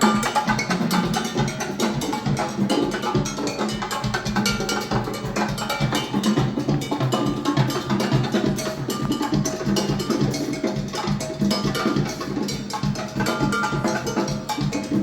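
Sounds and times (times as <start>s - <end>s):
percussion-heavy music from vinyl: 0.0s - 15.0s.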